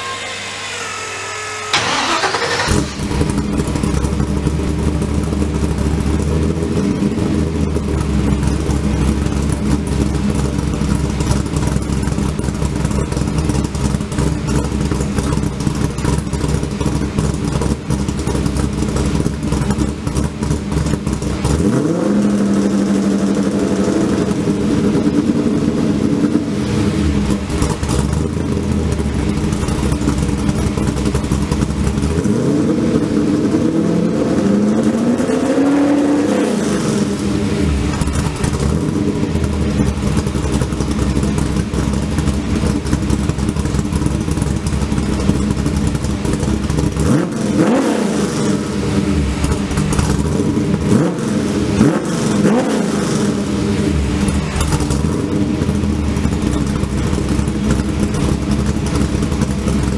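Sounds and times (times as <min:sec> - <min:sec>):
engine revving: 0:00.0 - 0:59.9
car engine cranking and idling: 0:01.6 - 0:59.9.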